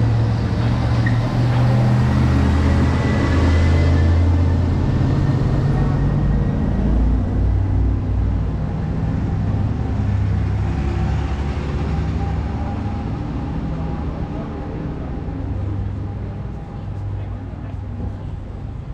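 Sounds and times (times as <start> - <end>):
street noise: 0.0 - 18.9
vehicle engine humming: 0.0 - 18.9.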